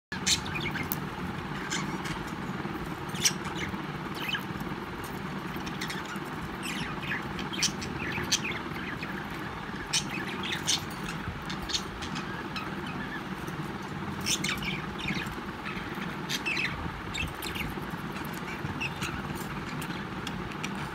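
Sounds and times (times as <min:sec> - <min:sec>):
low background hum: 0:00.1 - 0:20.9
budgerigars chirping: 0:00.2 - 0:04.6, 0:05.2 - 0:20.9
birds pecking clicks: 0:00.3 - 0:20.9.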